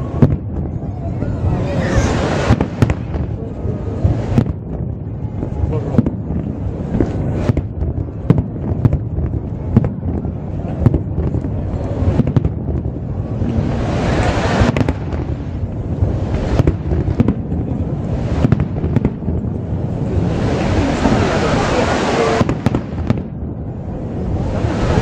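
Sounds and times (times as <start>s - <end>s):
hissing crackle: 0.0s - 23.4s
firework bangs: 0.0s - 25.0s
low rumble: 0.0s - 25.0s.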